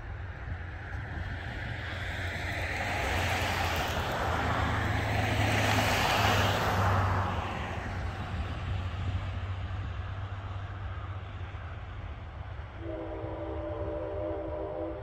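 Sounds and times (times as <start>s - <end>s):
train rolling hum and hiss: 0.0s - 15.0s.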